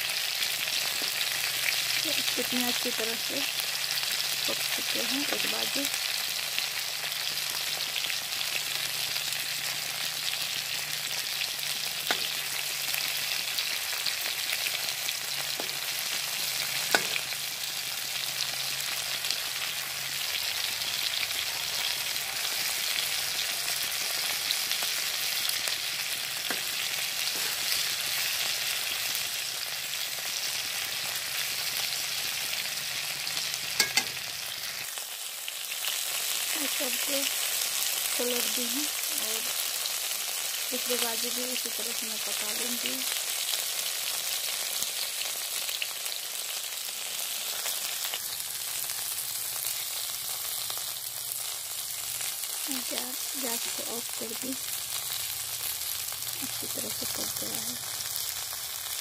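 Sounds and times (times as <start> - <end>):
food sizzling in oil: 0.0 - 59.0.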